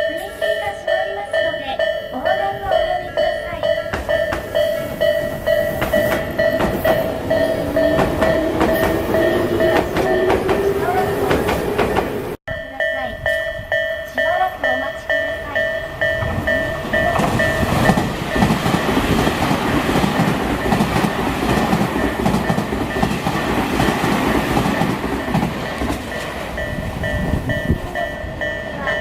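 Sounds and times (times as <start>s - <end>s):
level-crossing alarm ringing: 0.0s - 29.0s
train wheel and rail noise: 0.0s - 29.0s.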